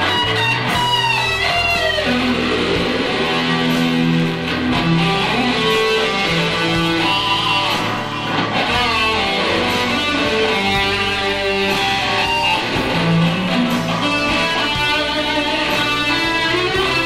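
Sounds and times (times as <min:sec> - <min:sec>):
electric guitar playing: 0:00.0 - 0:17.0.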